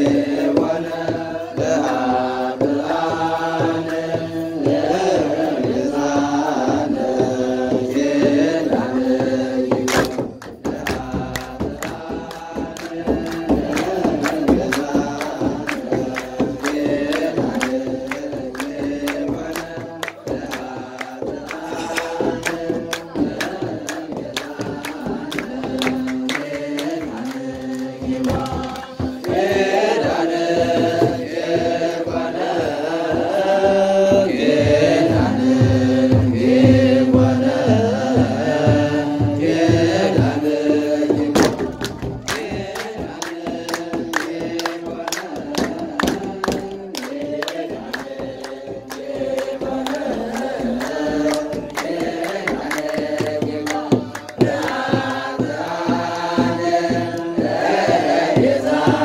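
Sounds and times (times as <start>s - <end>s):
hand clapping: 0.0s - 33.8s, 34.4s - 59.0s
low drum beat: 0.0s - 59.0s
men chanting: 0.0s - 59.0s.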